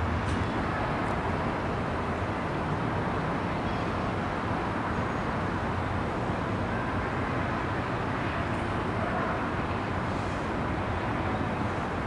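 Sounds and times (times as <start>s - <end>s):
distant city traffic hum: 0.0s - 12.0s.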